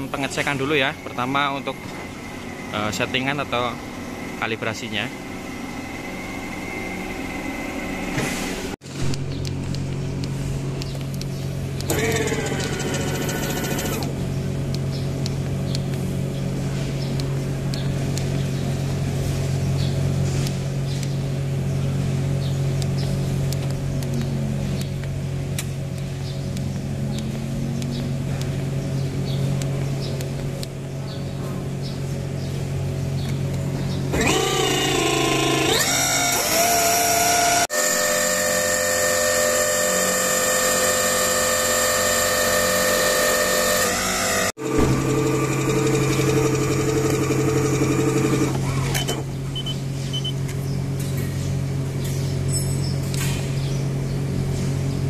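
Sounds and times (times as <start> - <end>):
hydraulic pump motor humming: 0.0 - 51.3
pump rising whine: 0.0 - 53.6.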